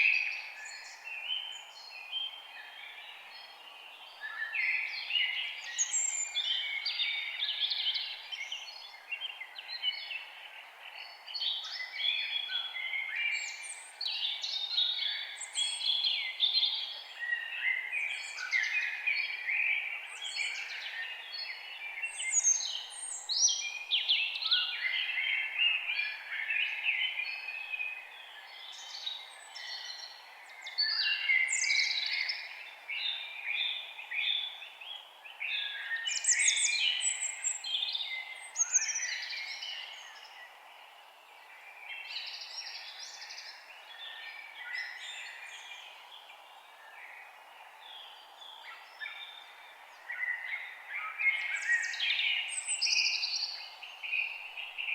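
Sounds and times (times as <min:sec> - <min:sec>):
faint background hiss: 0:00.0 - 0:54.9
forest birds chorus: 0:00.0 - 0:54.9.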